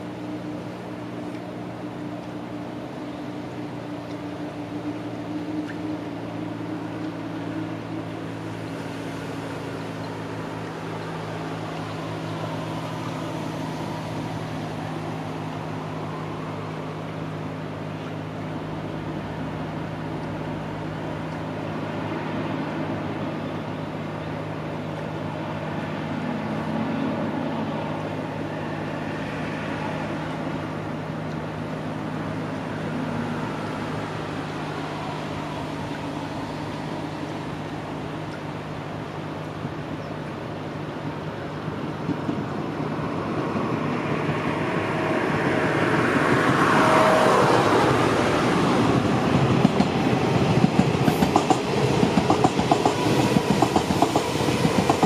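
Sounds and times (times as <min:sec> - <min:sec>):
low engine hum: 0:00.0 - 0:55.0
traffic: 0:00.0 - 0:55.0.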